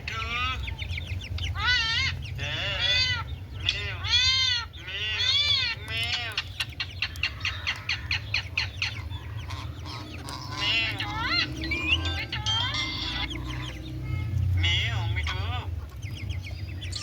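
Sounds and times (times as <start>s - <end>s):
parrot squawking: 0.0s - 17.0s
parrot clicking chatter: 1.2s - 17.0s.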